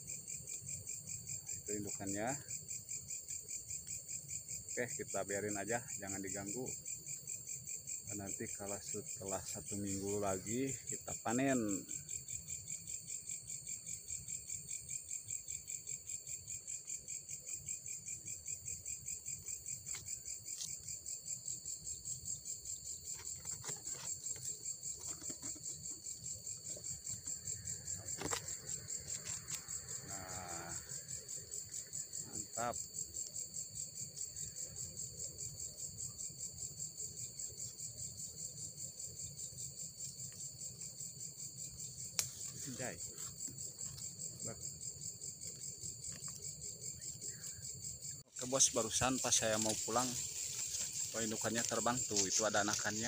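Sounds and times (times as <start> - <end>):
night insects chirping: 0.0 - 53.0.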